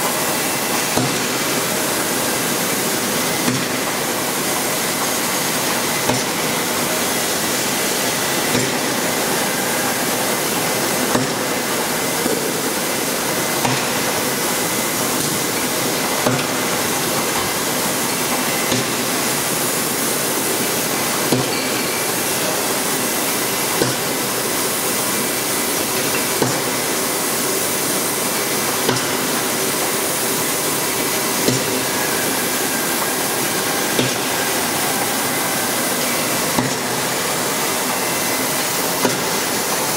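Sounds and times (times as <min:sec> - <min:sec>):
machine hiss and hum: 0:00.0 - 0:39.9.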